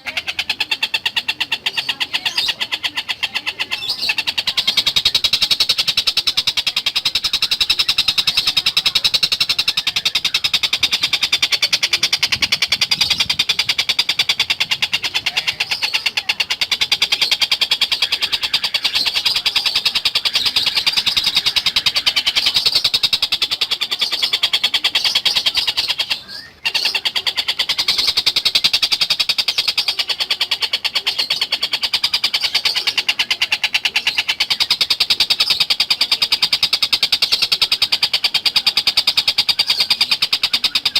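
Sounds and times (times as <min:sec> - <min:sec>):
bird rattling trill: 0:00.0 - 0:40.9.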